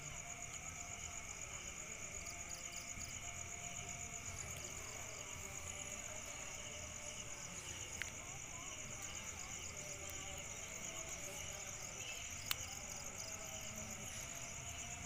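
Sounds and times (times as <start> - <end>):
low background noise: 0.0 - 15.0
night insects trilling: 0.0 - 15.0.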